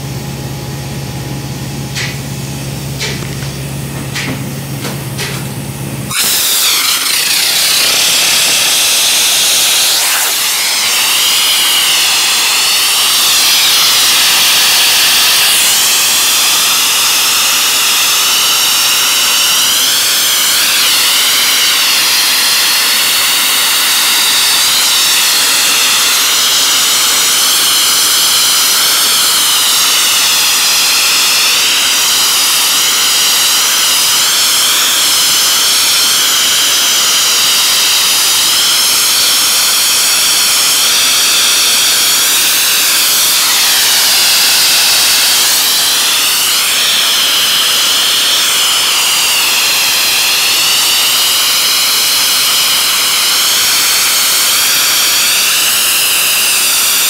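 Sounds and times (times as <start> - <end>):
blasting nozzle hiss: 6.1 - 37.6, 38.5 - 57.0.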